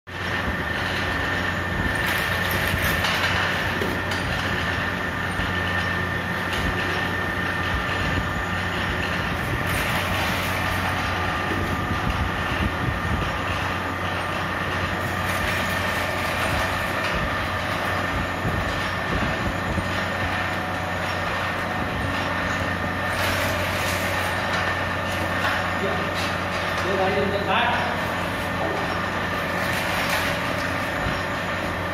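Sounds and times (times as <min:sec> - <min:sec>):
shredder motor hum and whine: 0:00.1 - 0:31.9.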